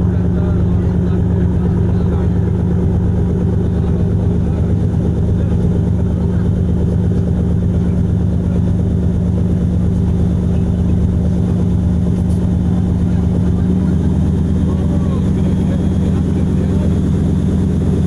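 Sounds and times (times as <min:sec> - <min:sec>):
diesel engine low hum: 0:00.0 - 0:18.0.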